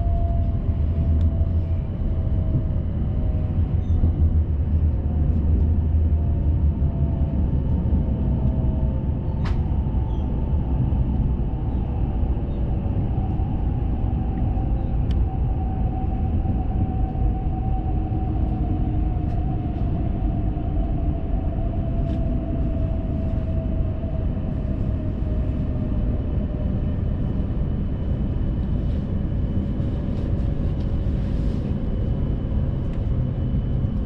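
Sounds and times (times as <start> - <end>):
train cabin rumble: 0.0 - 34.0.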